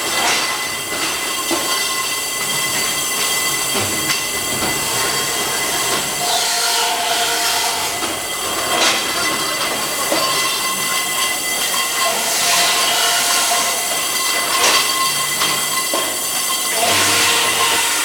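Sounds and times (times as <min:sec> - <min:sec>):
circular saw whining: 0:00.4 - 0:18.0
metal screeching: 0:00.4 - 0:18.0.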